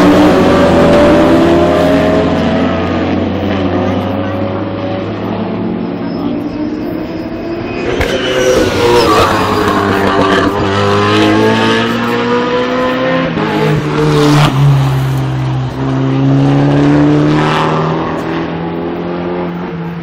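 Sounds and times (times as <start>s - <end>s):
race cars accelerating: 0.0s - 20.0s.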